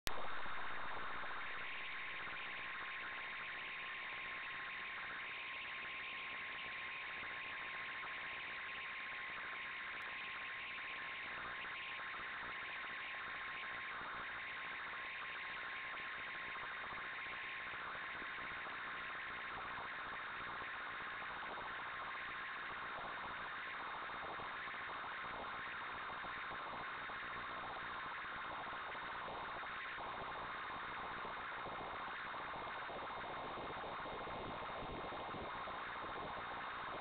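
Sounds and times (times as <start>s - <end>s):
thin steady whine: 0.1s - 37.0s.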